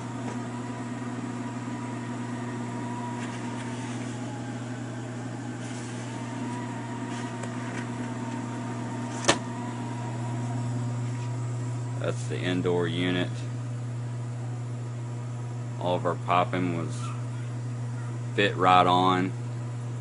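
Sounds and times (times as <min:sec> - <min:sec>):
heat pump blower hum: 0:00.0 - 0:20.0.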